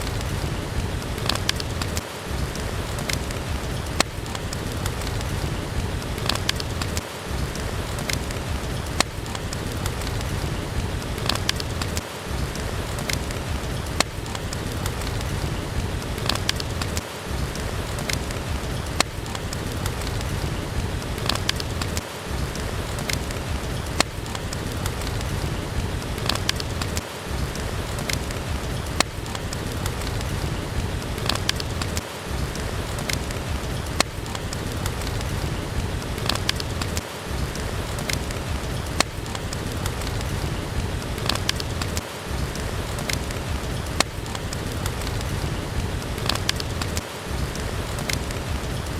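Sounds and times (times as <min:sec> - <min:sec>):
steady rain: 0:00.0 - 0:48.9
wood fire crackling: 0:00.0 - 0:48.9.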